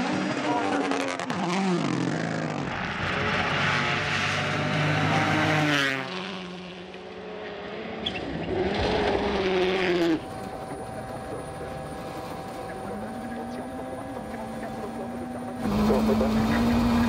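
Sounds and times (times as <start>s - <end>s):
rally car engine at high revs: 0.0s - 17.0s
second rally car engine: 0.0s - 17.0s.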